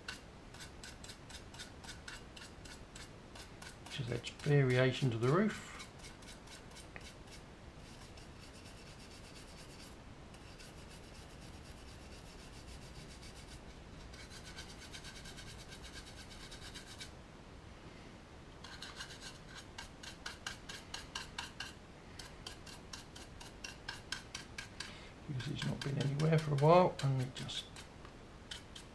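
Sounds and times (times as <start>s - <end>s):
paintbrush scratchy strokes: 0.0s - 17.2s, 18.6s - 24.8s, 25.4s - 27.9s.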